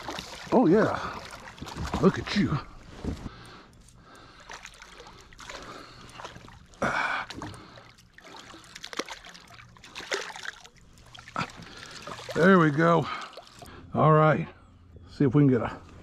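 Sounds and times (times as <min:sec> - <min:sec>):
water splashing and trickling: 0:00.0 - 0:03.3, 0:04.1 - 0:13.7.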